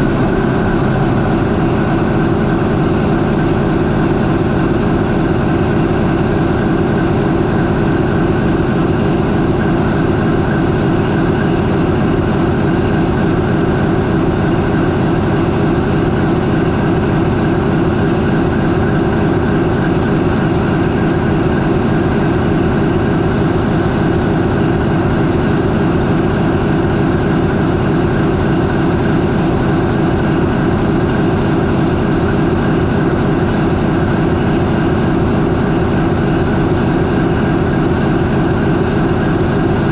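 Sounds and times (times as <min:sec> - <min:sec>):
marine diesel engine droning: 0:00.0 - 0:39.9.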